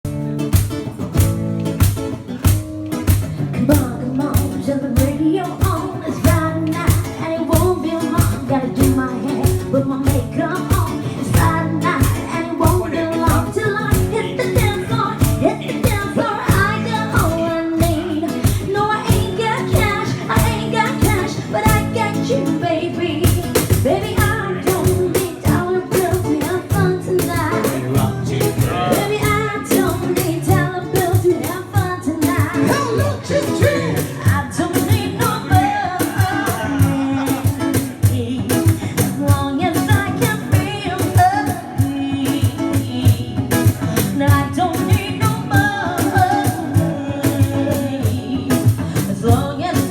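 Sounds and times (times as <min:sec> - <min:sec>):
live band playing: 0:00.0 - 0:49.9
steady drum beat: 0:00.1 - 0:49.9
person singing: 0:03.6 - 0:49.9.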